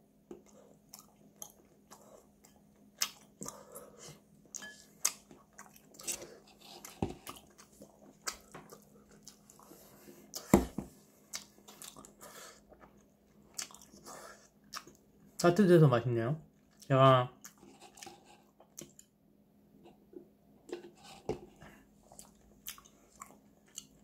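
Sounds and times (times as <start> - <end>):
faint steady hum: 0.0 - 24.0
person chewing: 0.3 - 15.0, 16.6 - 19.1, 20.7 - 24.0.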